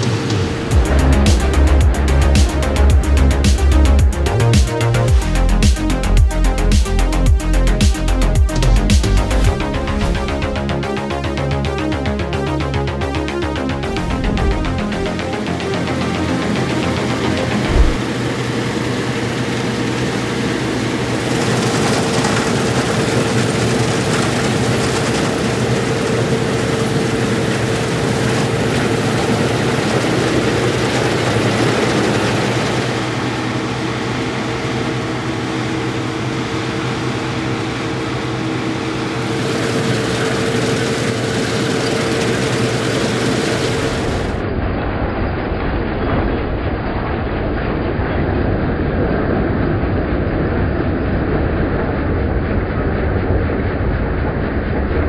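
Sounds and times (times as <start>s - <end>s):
combine harvester running: 0.0s - 44.6s.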